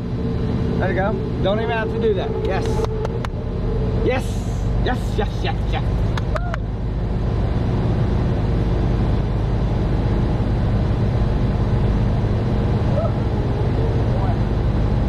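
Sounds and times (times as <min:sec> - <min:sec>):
hvac unit humming: 0:00.0 - 0:15.0.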